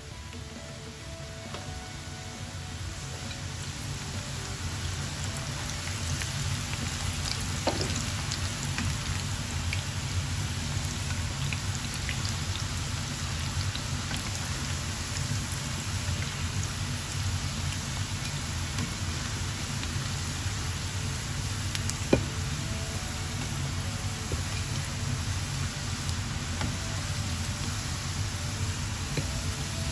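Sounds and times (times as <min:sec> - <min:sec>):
chicken deep-frying in oil: 0:00.0 - 0:29.9.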